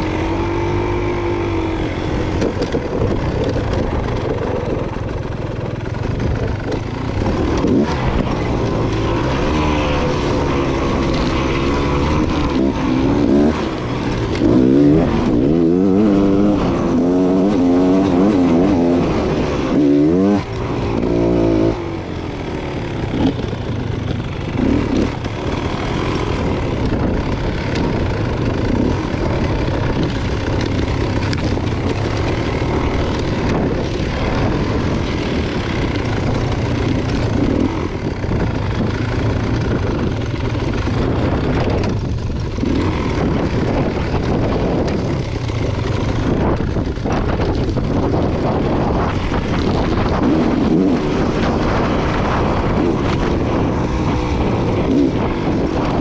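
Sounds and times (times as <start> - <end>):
two-stroke motorcycle engine running: 0.0 - 56.0.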